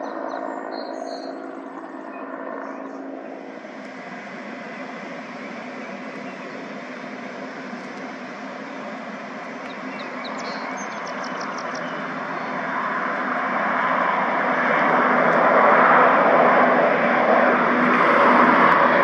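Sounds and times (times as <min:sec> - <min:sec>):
airplane engines rushing: 0:00.0 - 0:19.0.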